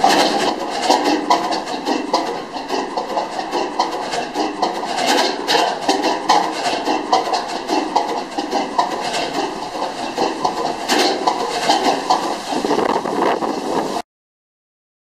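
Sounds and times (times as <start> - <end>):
engine rumble: 0.0 - 14.0
gas engine exhaust knocks: 0.0 - 14.0.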